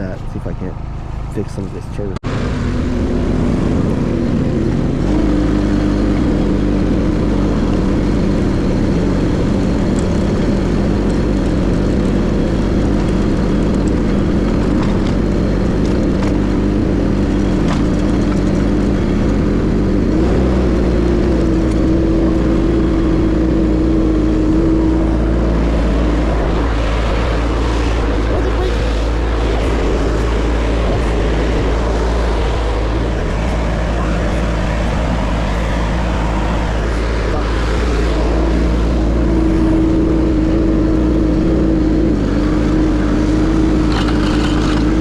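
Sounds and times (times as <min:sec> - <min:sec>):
skid steer engine running: 0:00.0 - 0:45.0.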